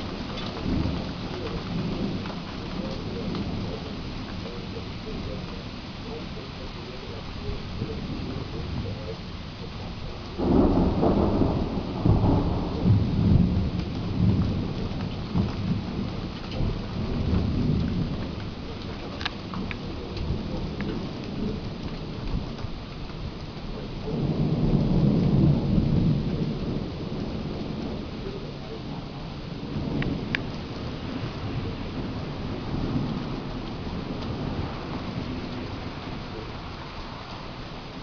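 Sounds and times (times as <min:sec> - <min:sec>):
steady rain: 0:00.0 - 0:38.0
thunder rumbling: 0:00.0 - 0:38.0.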